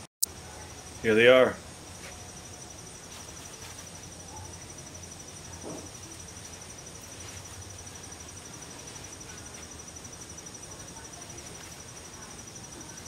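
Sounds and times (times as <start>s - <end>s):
insects trilling: 0.3s - 13.0s.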